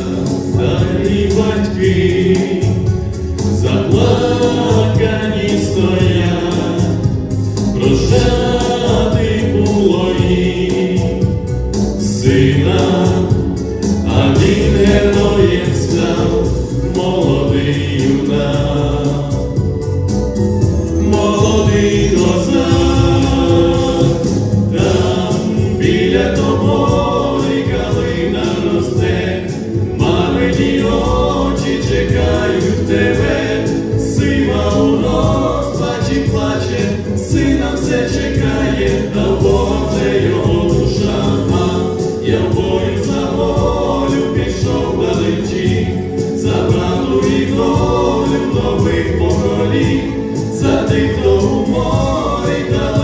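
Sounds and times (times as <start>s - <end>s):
male trio singing in harmony: 0.0s - 53.0s.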